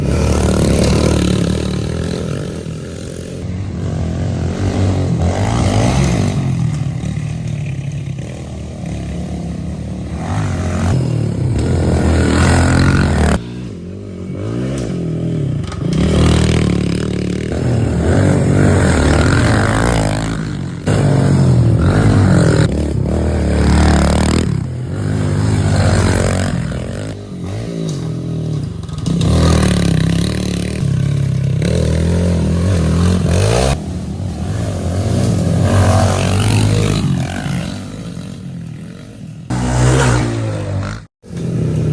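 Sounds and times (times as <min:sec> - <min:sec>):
pit bike engines revving: 0:00.0 - 0:41.9.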